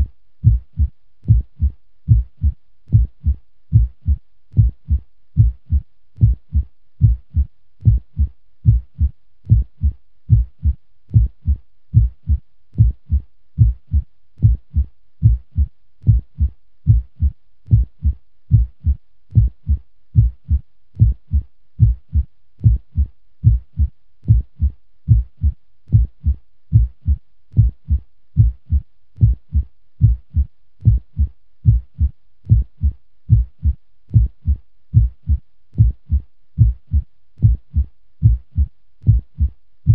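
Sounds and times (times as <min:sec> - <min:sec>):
heartbeat thumping: 0:00.0 - 0:39.9.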